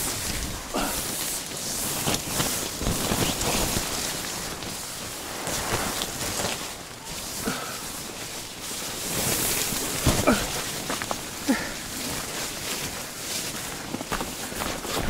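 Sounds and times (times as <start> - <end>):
steady hiss: 0.0 - 15.0
tent fabric rustling and crinkling: 0.0 - 15.0.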